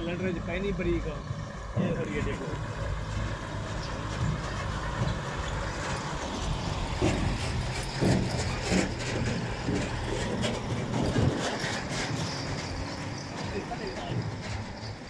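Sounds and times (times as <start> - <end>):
construction site noise: 0.0 - 15.0
diesel truck driving past: 0.0 - 15.0.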